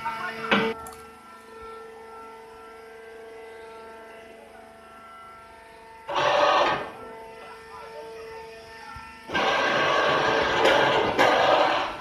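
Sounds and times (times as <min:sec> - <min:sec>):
baling machinery humming: 0:00.0 - 0:12.0.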